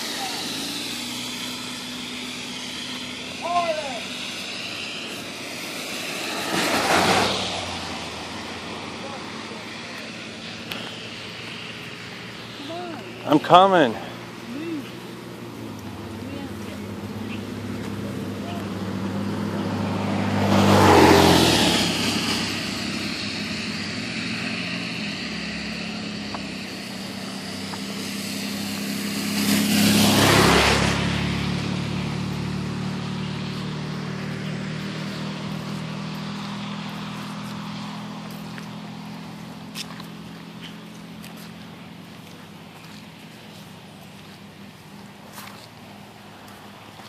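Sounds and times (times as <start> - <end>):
cars passing on wet road: 0.0 - 47.0
low engine hum: 0.0 - 47.0.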